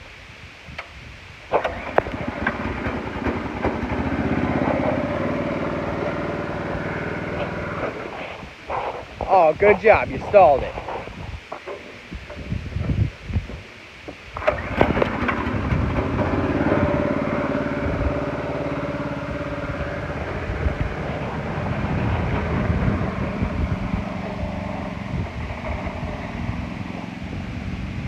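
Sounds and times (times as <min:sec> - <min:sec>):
mower engine starting and running: 0:01.5 - 0:13.0, 0:14.2 - 0:28.0.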